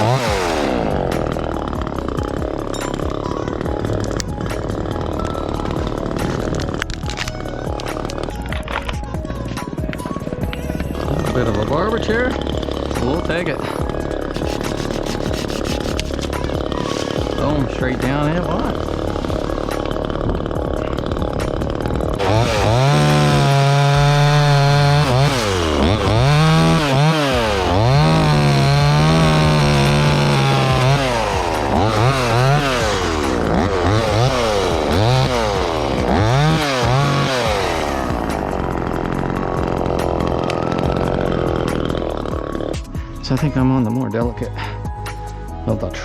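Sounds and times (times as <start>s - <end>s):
chainsaw revving and idling: 0.0s - 45.6s.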